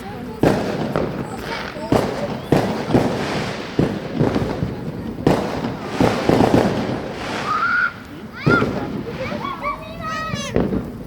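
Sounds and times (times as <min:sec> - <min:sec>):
firework bangs: 0:00.0 - 0:11.0
firework crackling: 0:00.0 - 0:11.0.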